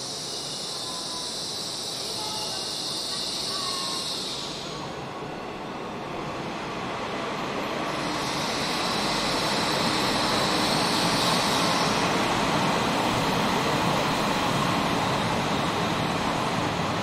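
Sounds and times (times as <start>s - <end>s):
diesel train rolling rumble: 0.0s - 17.0s
train hiss: 0.0s - 17.0s.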